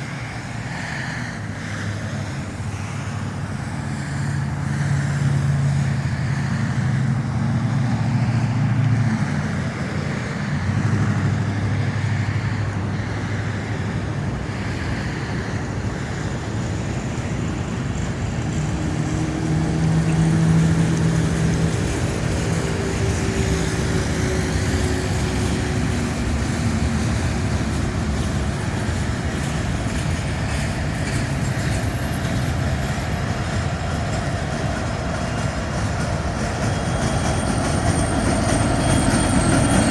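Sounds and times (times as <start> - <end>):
diesel locomotive engine drone: 0.0 - 39.9
rumble of moving train: 0.0 - 39.9.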